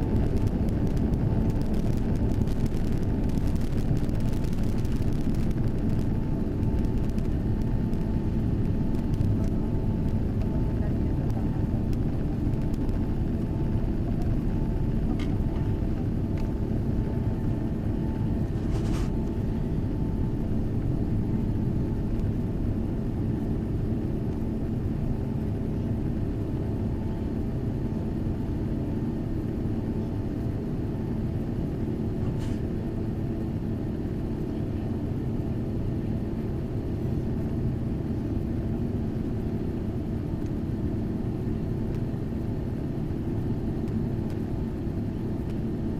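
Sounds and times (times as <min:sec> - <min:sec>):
airplane cabin engine drone: 0:00.0 - 0:45.9.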